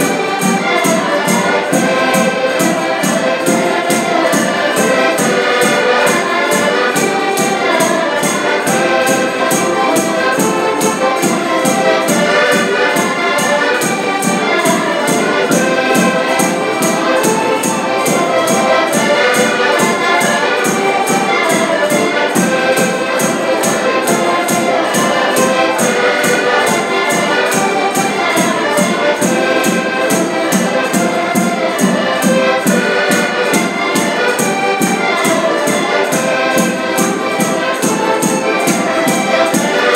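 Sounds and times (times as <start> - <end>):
button accordions playing folk tune: 0.0 - 39.9.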